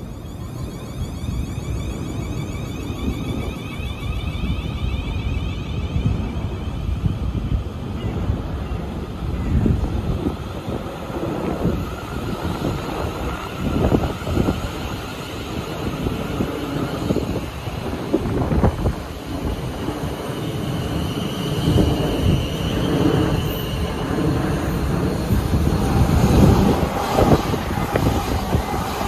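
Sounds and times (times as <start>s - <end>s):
electric train rumble: 0.0s - 29.0s
faint high whine: 0.0s - 29.0s
wind buffeting microphone: 0.0s - 29.0s.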